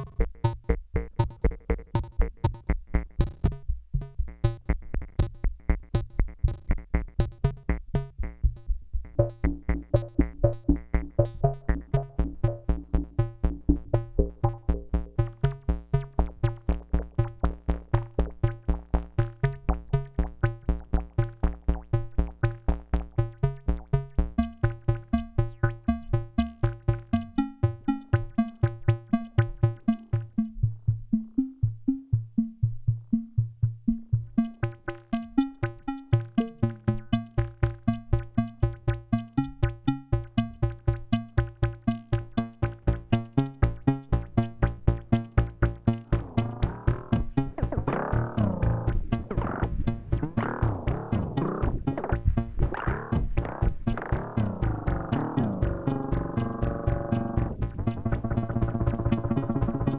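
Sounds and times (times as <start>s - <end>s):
synthesizer sequenced pattern: 0.0s - 59.9s.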